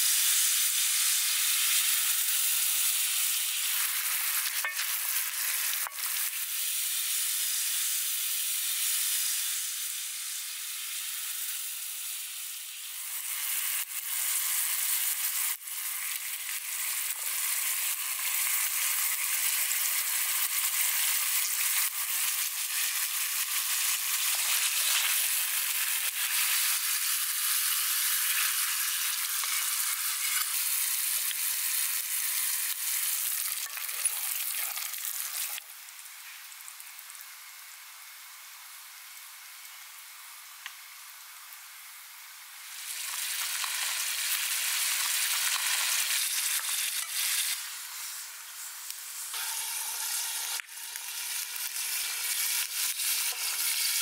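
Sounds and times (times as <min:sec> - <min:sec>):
sauce sizzling in a pan: 0:00.0 - 0:54.0.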